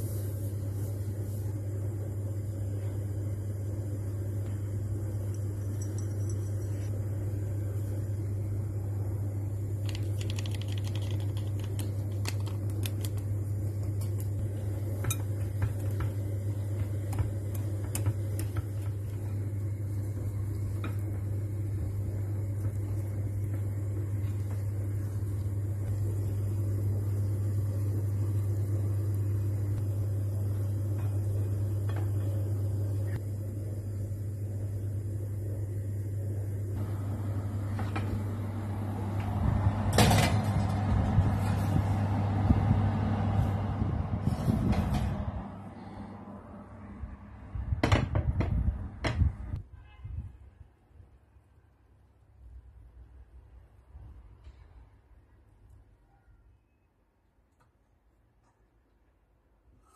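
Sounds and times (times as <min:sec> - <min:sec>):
steady low hum: 0:00.0 - 0:49.6.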